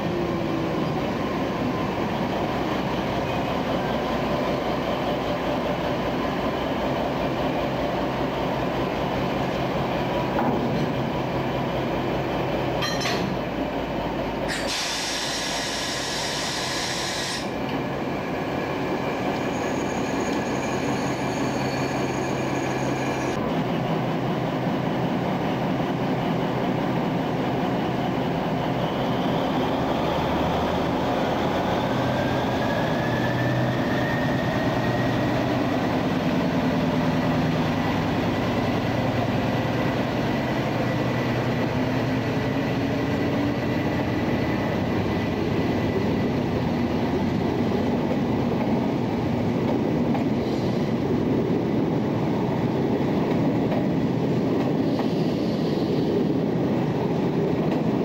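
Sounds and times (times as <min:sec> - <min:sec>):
diesel locomotive running: 0:00.0 - 0:58.0
locomotive whine: 0:00.0 - 0:58.0.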